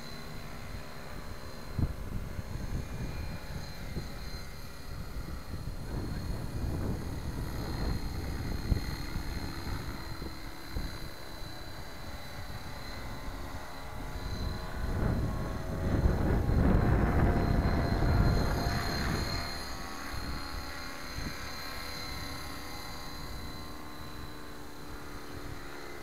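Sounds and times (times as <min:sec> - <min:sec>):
rc helicopter motor whine: 0:00.0 - 0:26.0.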